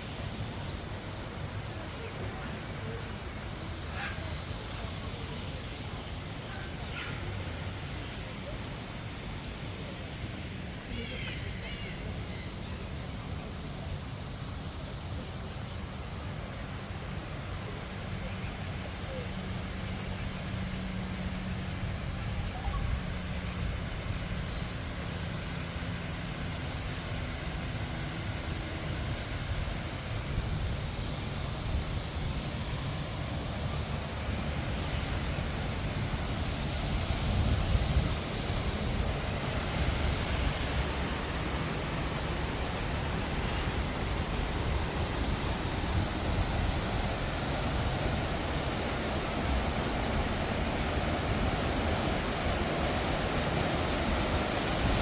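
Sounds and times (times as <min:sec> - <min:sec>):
falling water rushing: 0:00.0 - 0:55.0.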